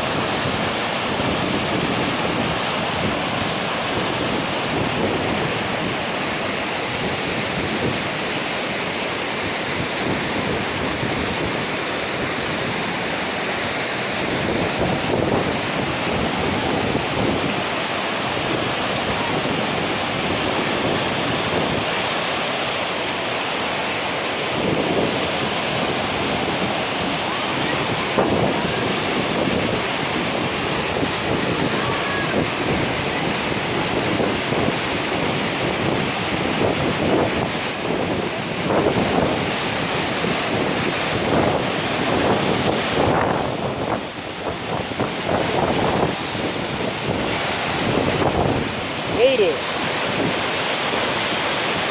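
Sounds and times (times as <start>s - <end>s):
wind gusting on microphone: 0.0s - 23.2s, 23.9s - 51.9s
waterfall rushing: 0.0s - 51.9s.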